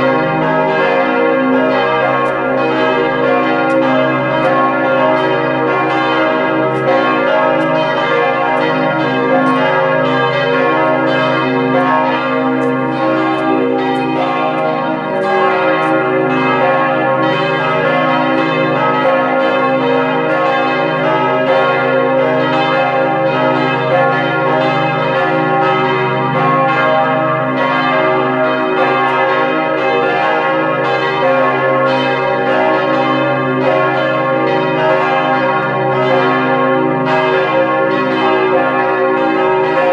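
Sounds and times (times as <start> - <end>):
church bells ringing a peal: 0.0 - 39.9.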